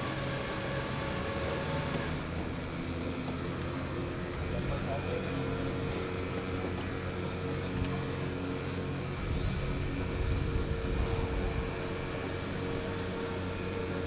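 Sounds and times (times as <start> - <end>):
electric motor hum: 0.0 - 14.0
road and wind noise: 0.0 - 14.0.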